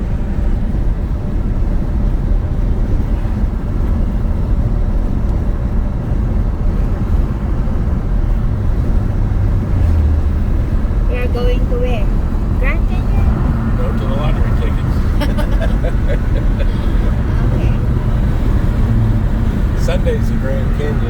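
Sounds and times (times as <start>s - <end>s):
road and engine noise inside vehicle: 0.0s - 21.0s.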